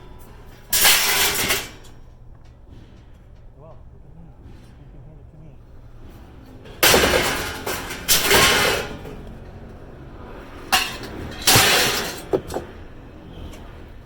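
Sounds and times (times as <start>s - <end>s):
scrap metal clanking crashes: 0.0s - 4.8s, 5.6s - 14.0s.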